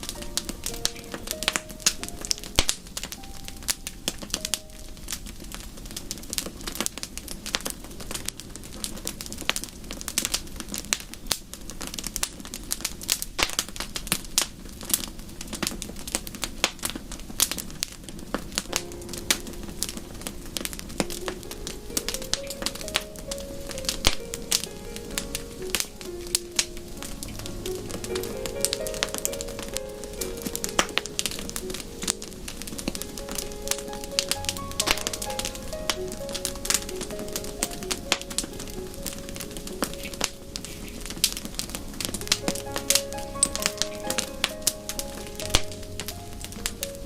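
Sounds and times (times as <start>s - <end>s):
soft melodic notes: 0.0s - 10.3s, 18.6s - 47.0s
wood fire crackling: 0.0s - 47.0s.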